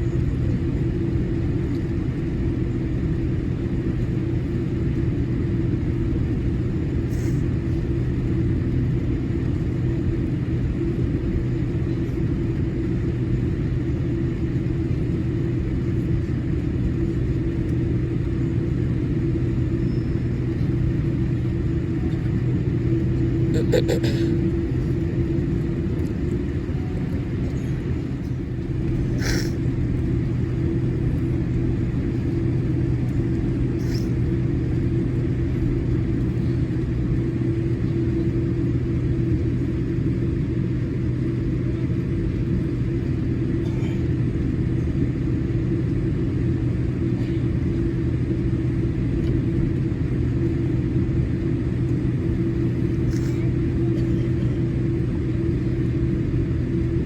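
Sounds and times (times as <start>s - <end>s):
aircraft cabin rumble and hum: 0.0s - 57.0s.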